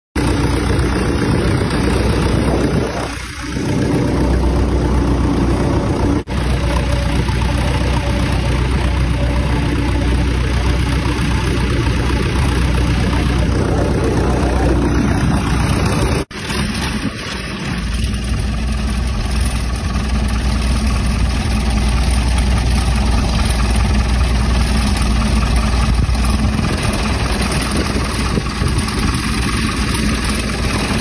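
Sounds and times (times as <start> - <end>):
boat diesel engine running: 0.2 - 31.0
wind: 0.2 - 31.0.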